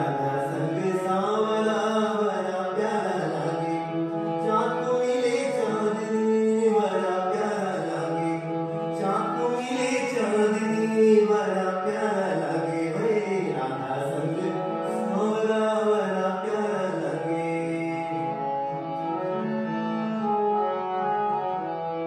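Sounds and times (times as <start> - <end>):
instrumental accompaniment: 0.0 - 22.0
person singing long gliding notes: 0.0 - 22.0.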